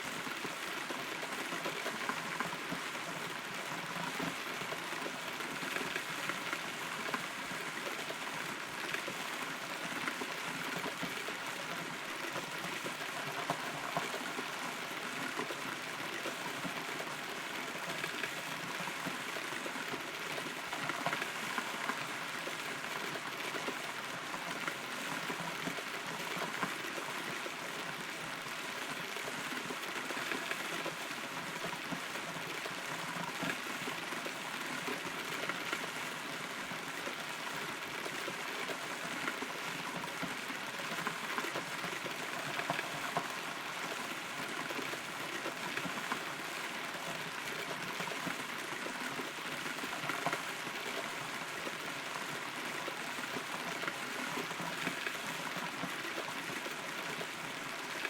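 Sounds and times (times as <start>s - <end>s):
rain drops tapping on wood: 0.2s - 28.1s, 28.8s - 58.0s.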